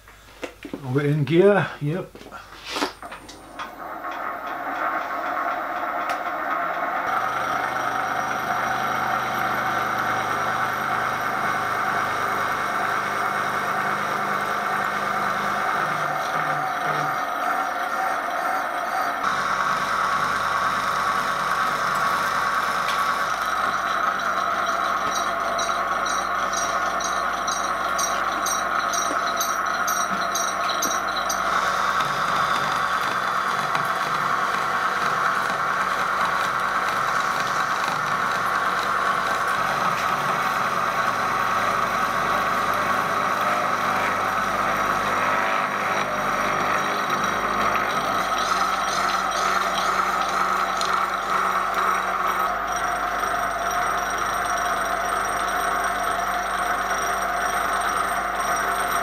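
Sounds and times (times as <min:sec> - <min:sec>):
milling machine cutting metal: 0:03.2 - 0:59.0.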